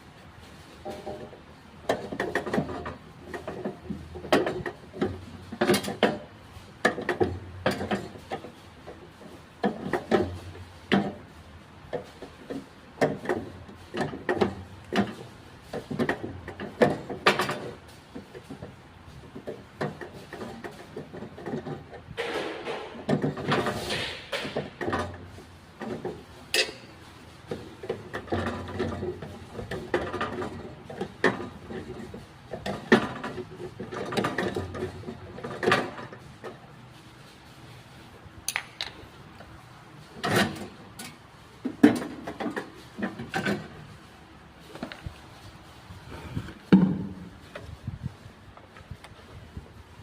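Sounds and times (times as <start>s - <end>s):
metal parts and tools clanking: 0.5s - 36.7s, 38.5s - 45.8s.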